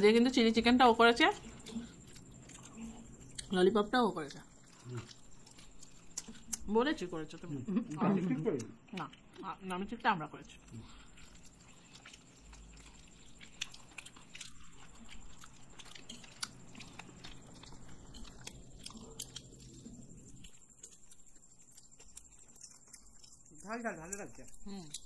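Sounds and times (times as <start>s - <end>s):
people chewing and biting food: 0.0s - 25.0s.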